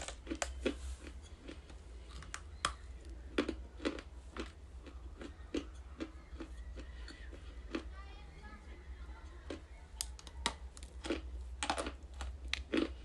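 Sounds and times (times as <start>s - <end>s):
person chewing crunchy clay: 0.0s - 7.9s, 9.5s - 13.0s.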